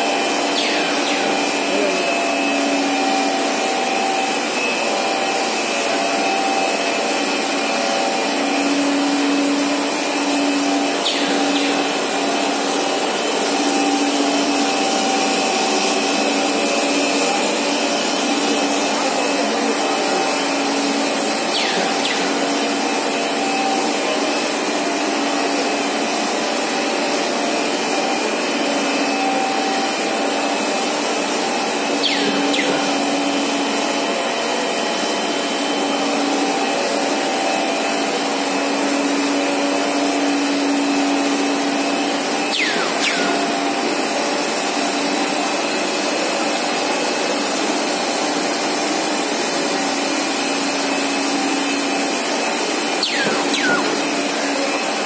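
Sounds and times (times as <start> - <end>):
machine line running with hum: 0.0 - 55.0.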